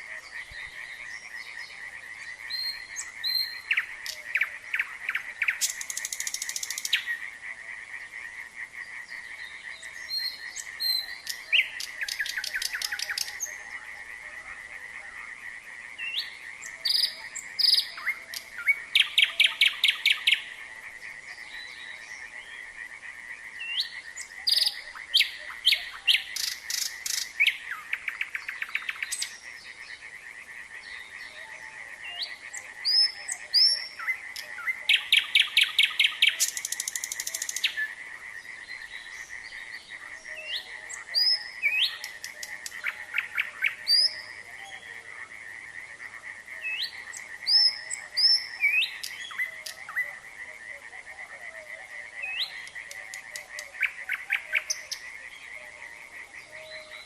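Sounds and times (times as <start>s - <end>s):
frogs trilling chorus: 0.0s - 57.0s
nightingale singing: 0.0s - 57.0s.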